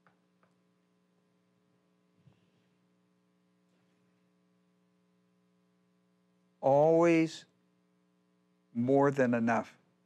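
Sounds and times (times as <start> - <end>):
faint electrical hum: 0.0 - 10.0.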